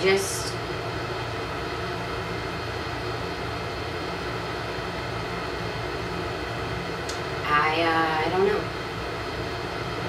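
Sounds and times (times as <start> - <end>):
low room hum and hiss: 0.0 - 10.0.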